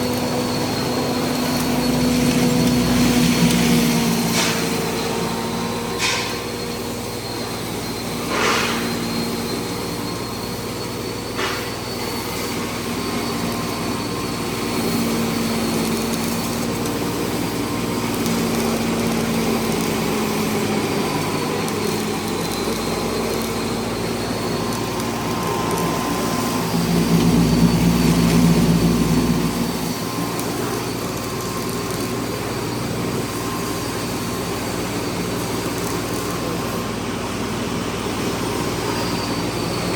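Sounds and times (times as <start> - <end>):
grinder machine hum and whine: 0.0 - 39.9.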